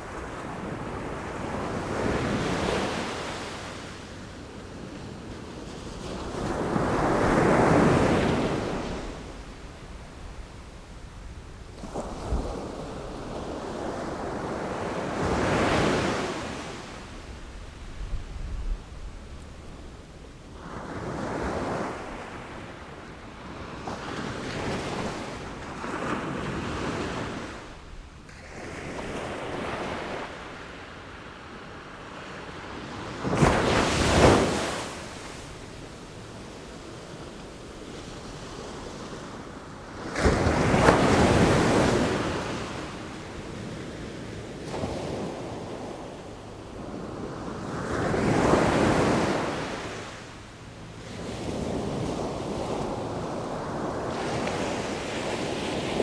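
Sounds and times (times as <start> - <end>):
wind: 0.0 - 56.0.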